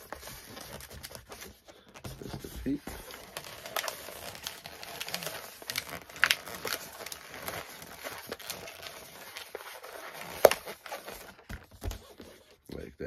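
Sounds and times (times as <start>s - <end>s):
balloons squeaking and rubbing: 0.0s - 12.8s.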